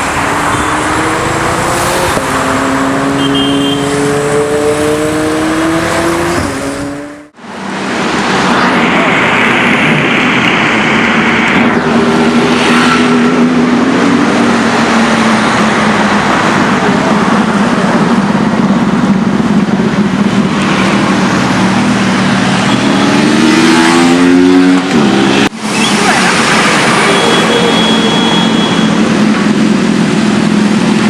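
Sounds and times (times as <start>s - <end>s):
car engine revving: 0.0s - 31.0s
street noise: 0.0s - 31.0s.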